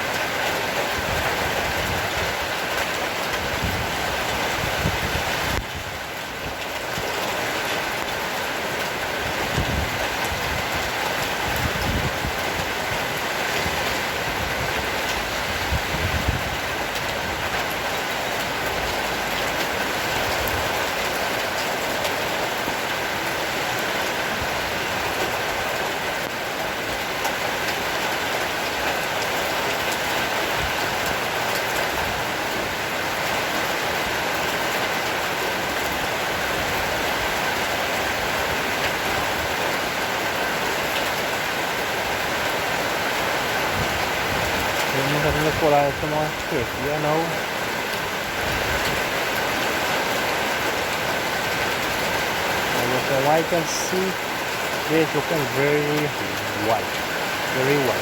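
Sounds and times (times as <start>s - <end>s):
heavy rain hissing: 0.8s - 31.4s, 35.6s - 58.0s.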